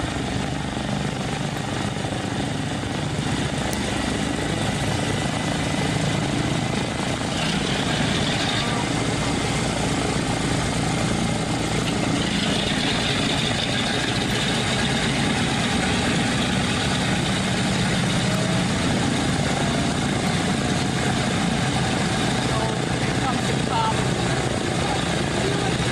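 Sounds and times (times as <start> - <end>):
radial engines idling: 0.0 - 25.9.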